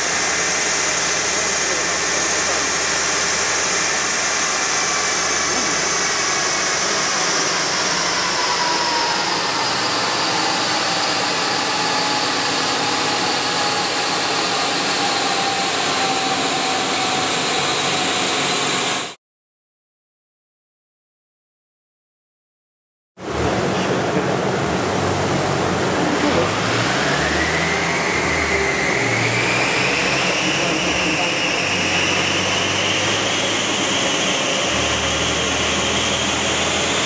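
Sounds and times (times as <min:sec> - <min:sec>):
cooling fan rushing: 0:00.0 - 0:19.1, 0:23.2 - 0:37.0
car running on a dyno: 0:00.0 - 0:19.2, 0:23.2 - 0:37.0.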